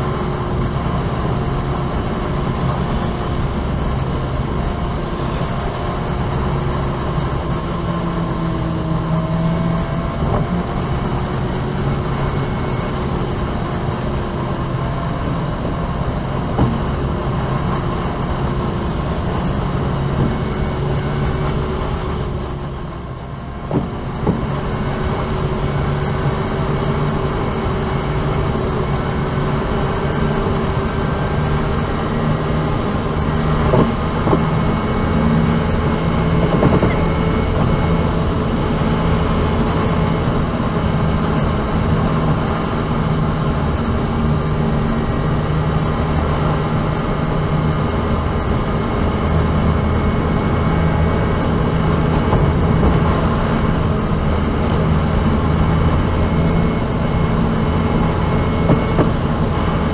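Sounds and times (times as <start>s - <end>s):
sped-up car road and engine noise: 0.0s - 59.9s.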